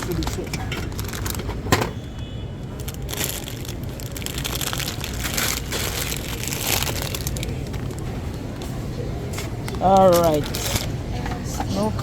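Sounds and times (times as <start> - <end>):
plastic rustling and crinkling: 0.0 - 2.0, 2.6 - 8.7, 9.3 - 11.3.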